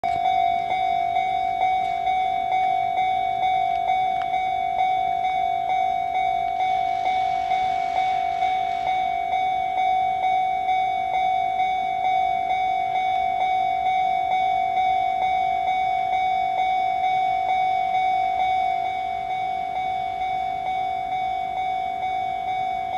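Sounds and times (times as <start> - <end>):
level-crossing alarm bell ringing: 0.0 - 22.9.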